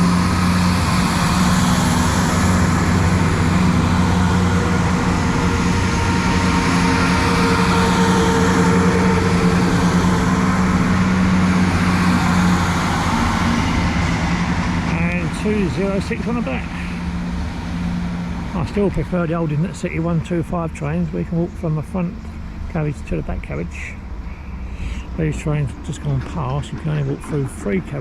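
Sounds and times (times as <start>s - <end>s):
train engines droning: 0.0s - 28.0s
wheels rumbling on rails: 0.0s - 28.0s.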